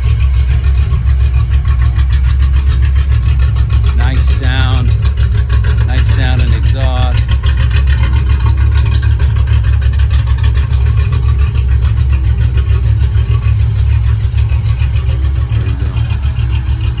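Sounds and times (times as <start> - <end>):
car engine idling rumble: 0.0 - 17.0.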